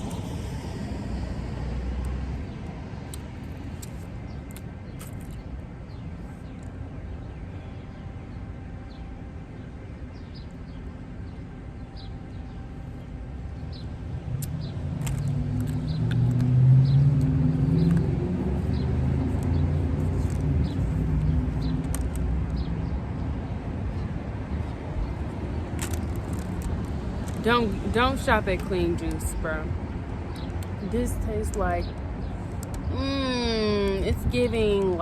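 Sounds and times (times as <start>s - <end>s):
low traffic rumble: 0.0s - 35.0s.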